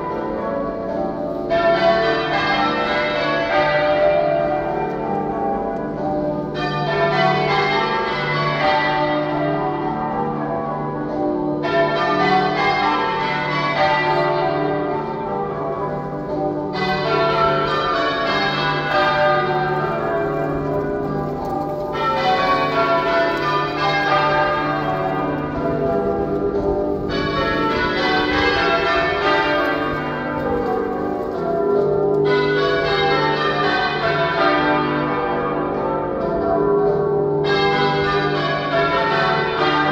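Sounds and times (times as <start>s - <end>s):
half-muffled church bells ringing: 0.0s - 39.9s.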